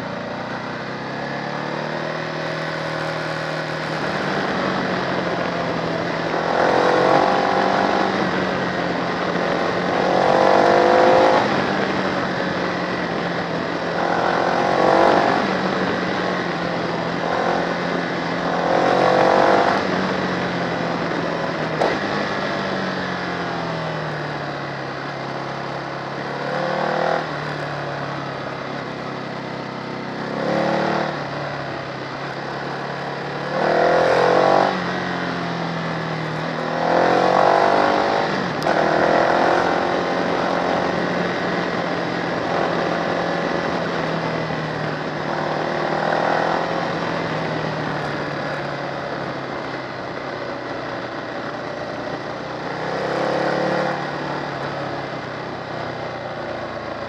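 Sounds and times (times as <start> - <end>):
motorcycle engine accelerating: 0.0 - 57.0
steady rushing noise: 0.0 - 57.0.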